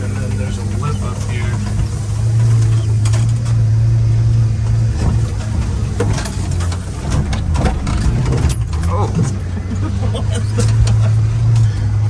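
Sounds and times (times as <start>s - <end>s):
clunks and rattles: 0.0s - 12.0s
small truck engine droning: 0.0s - 12.0s.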